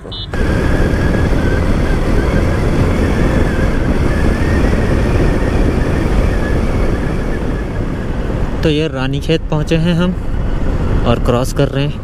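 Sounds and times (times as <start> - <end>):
wind rush on microphone: 0.3 - 12.0.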